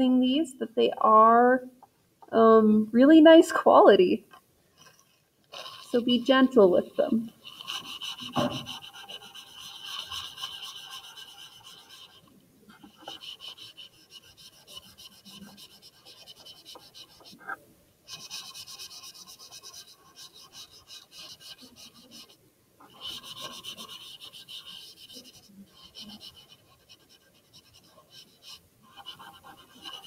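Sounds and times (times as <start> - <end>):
paper towel rubbing on paper: 4.8 - 30.0.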